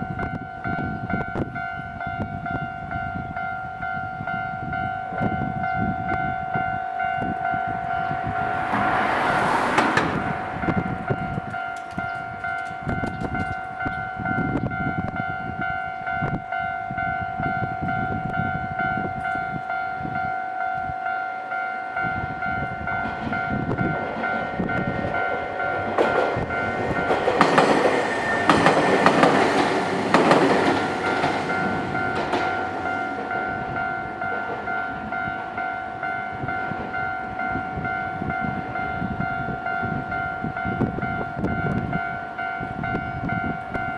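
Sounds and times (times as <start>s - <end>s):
level crossing warning bell: 0.0s - 43.9s
train passing: 0.0s - 43.9s.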